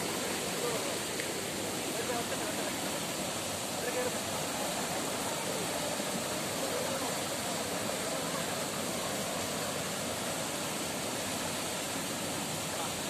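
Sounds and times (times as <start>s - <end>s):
shallow water rushing: 0.0s - 13.0s.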